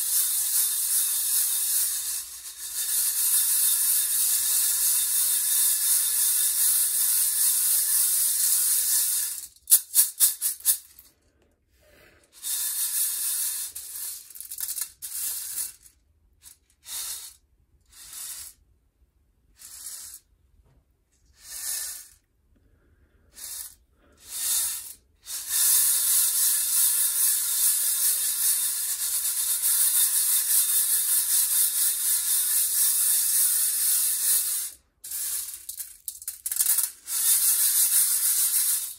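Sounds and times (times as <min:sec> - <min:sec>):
coffee beans rattling in colander: 0:00.0 - 0:11.2, 0:12.4 - 0:18.6, 0:23.4 - 0:38.9.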